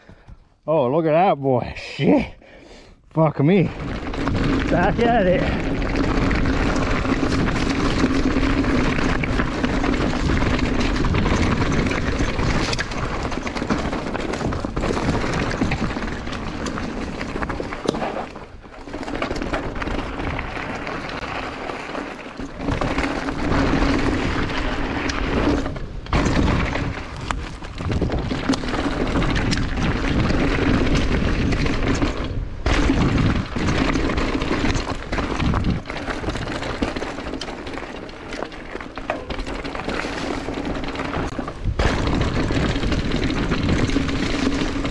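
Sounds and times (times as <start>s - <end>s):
bike tyres knocking on rocks: 3.7s - 44.9s.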